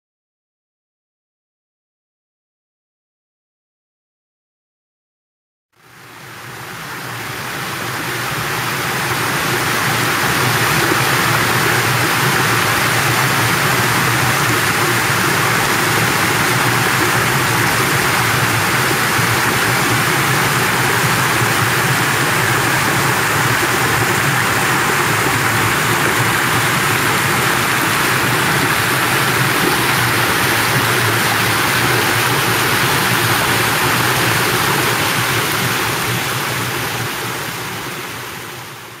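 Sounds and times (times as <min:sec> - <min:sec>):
waterfall rushing over rocks: 0:05.8 - 0:39.0.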